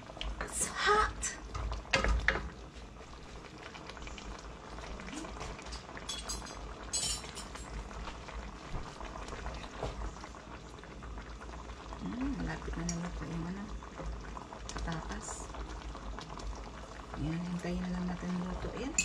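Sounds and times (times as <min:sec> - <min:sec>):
curry bubbling in a pan: 0:00.0 - 0:19.0.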